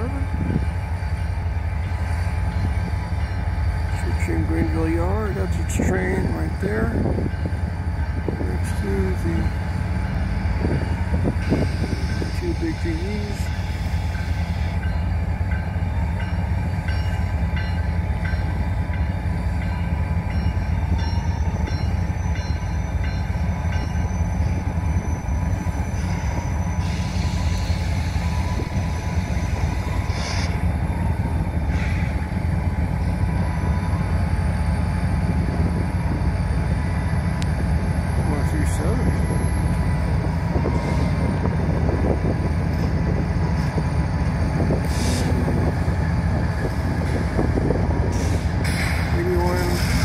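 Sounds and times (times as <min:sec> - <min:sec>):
diesel locomotives rumbling: 0:00.0 - 0:50.0.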